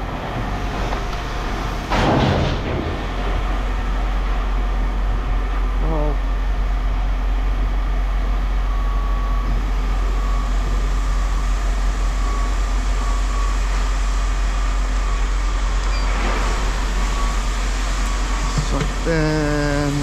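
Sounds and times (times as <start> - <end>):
low rumble of machinery: 0.0 - 20.0
faint steady whine: 3.1 - 20.0.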